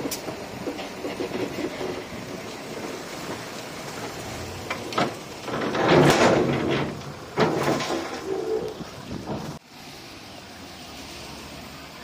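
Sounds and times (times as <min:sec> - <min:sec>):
heavy machinery rumbling: 0:00.0 - 0:09.6.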